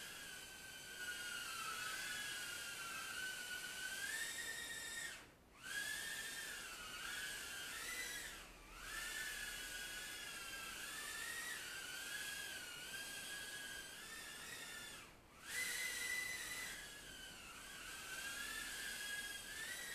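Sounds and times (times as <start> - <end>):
quadcopter motors whining: 0.0 - 19.9.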